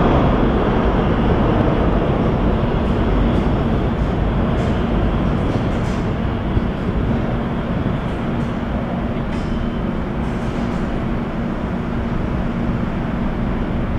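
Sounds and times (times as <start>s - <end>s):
low hum: 0.0s - 13.9s
subway train rumbling: 0.0s - 13.9s.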